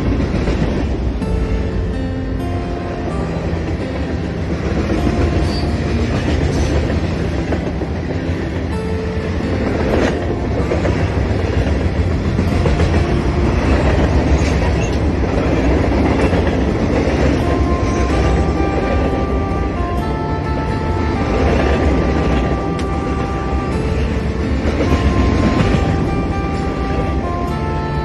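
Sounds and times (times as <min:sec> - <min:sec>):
clickety-clack over rail joints: 0:00.0 - 0:01.9, 0:02.8 - 0:28.0
steel wheels rumbling on rail: 0:00.0 - 0:28.0.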